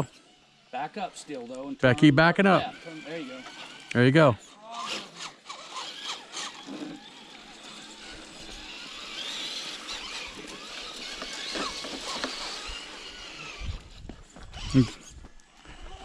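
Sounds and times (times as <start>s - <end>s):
rc car motor whining: 0.0s - 16.0s.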